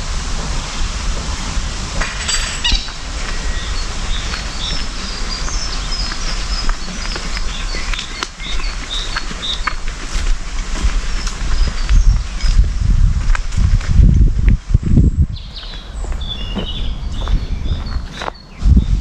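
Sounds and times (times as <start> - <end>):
steady low rumble: 0.0 - 19.0
small birds chirping: 2.0 - 19.0.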